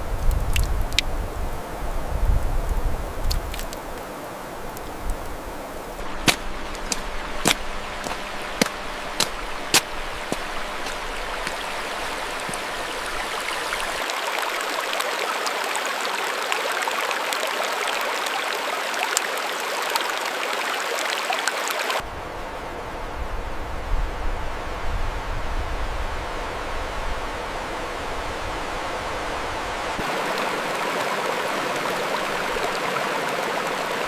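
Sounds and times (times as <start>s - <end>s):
mountain stream flowing: 0.0s - 22.7s, 25.8s - 34.0s.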